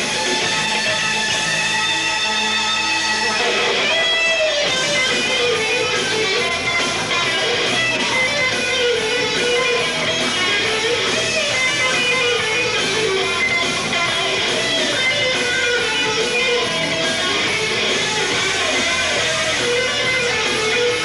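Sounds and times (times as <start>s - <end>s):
guitar melody over strummed chords: 0.0s - 21.0s.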